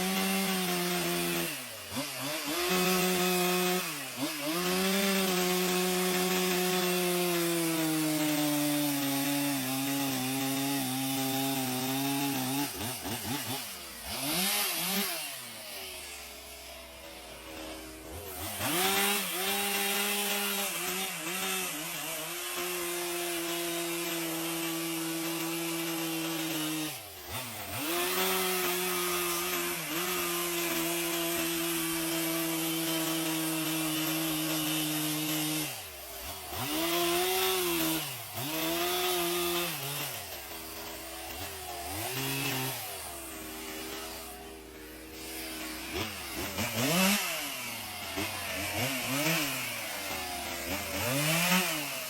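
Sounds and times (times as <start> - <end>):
chainsaw revving and cutting wood: 0.0 - 52.0.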